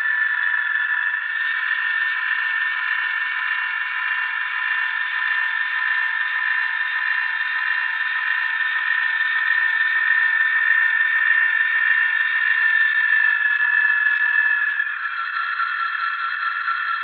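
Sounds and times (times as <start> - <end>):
diesel locomotive sound from small speaker: 0.0 - 17.0.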